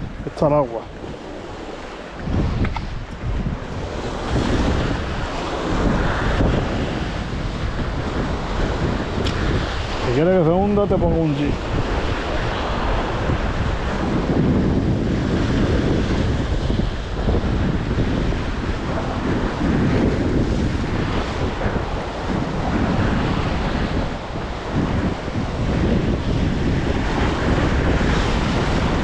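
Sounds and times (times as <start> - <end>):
sea waves washing: 0.0 - 29.0
wind buffeting microphone: 0.0 - 29.0.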